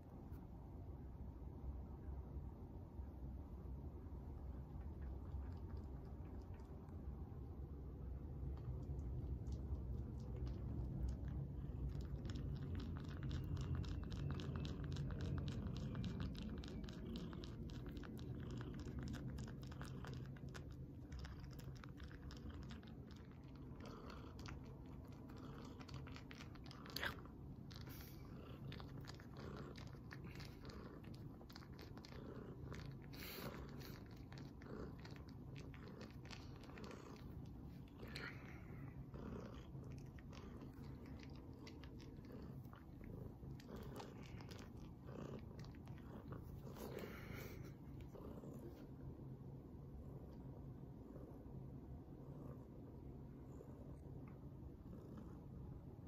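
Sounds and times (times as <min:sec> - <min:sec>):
cat purring: 0:03.1 - 0:56.0.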